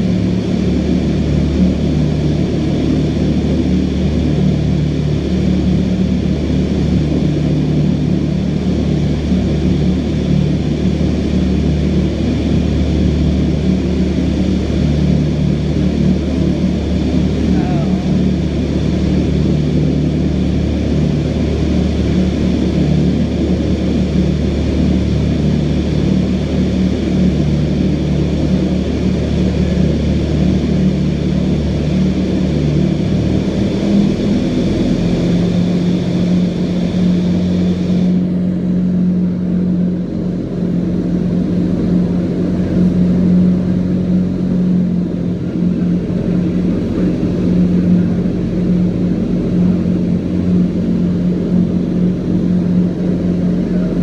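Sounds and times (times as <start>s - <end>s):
big fans humming: 0.0s - 54.0s.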